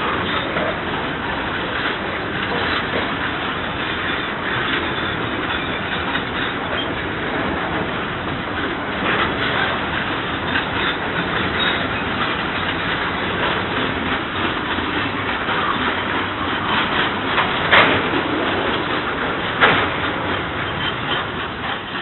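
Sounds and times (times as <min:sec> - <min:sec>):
steel wheels rolling on rail: 0:00.0 - 0:22.0
wheels clacking over rail joints: 0:00.0 - 0:22.0.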